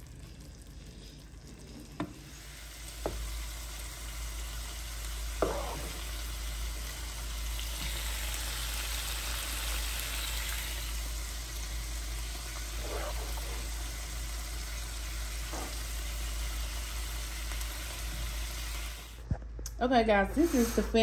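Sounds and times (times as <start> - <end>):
sauce bubbling and sizzling in pan: 0.0 - 19.2.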